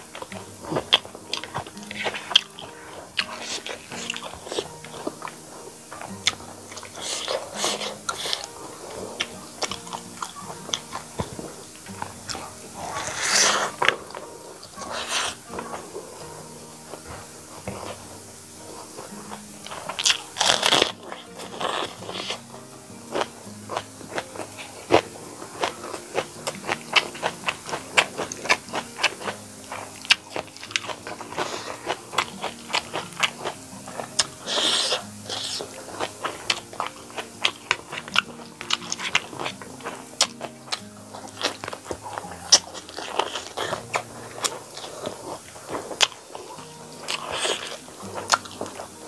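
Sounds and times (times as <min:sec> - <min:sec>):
soft background music: 0:00.0 - 0:49.0
wet chewing: 0:00.0 - 0:49.0.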